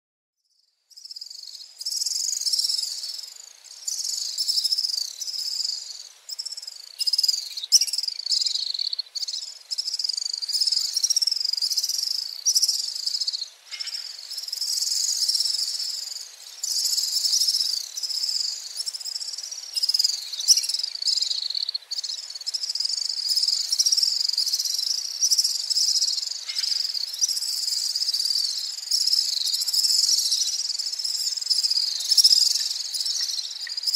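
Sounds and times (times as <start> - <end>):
swifts trilling and twittering: 0.9 - 33.9.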